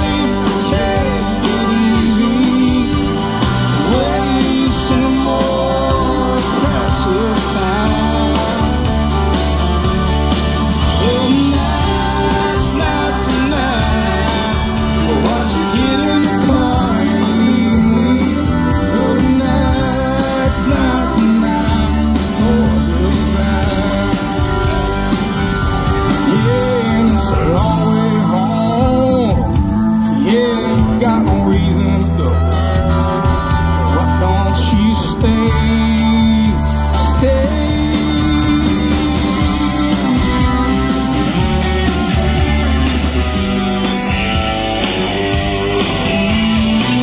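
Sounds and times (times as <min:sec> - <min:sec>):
bass: 0:00.0 - 0:47.0
drums: 0:00.0 - 0:47.0
strummed acoustic guitar: 0:00.0 - 0:47.0.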